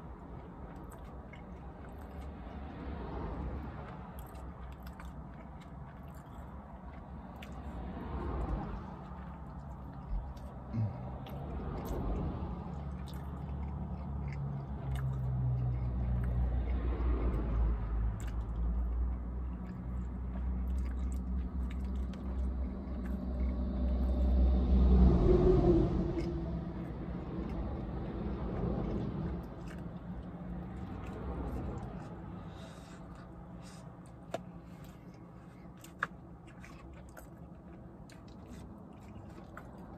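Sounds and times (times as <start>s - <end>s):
person chewing sandwich: 0.0s - 39.9s
steady low rumble: 0.0s - 39.9s.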